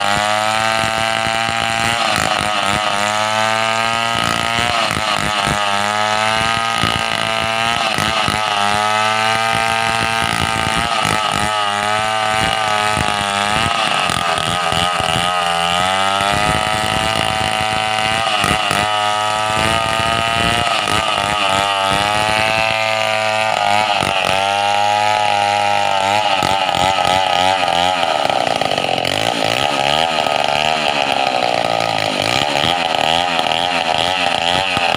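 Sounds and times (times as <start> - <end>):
chainsaw engine running: 0.0 - 34.9.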